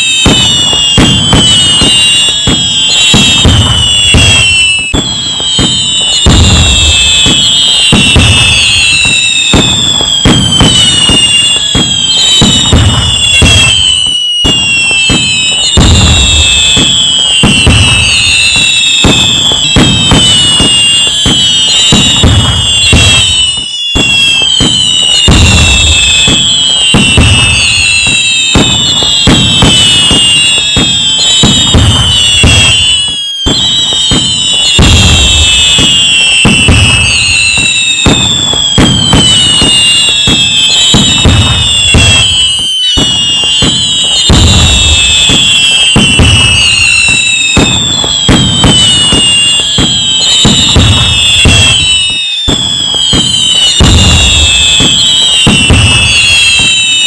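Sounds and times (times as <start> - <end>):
low firework booms: 0.0 - 56.9
fireworks crackling: 0.0 - 57.0
whistling firework shells: 0.0 - 57.0.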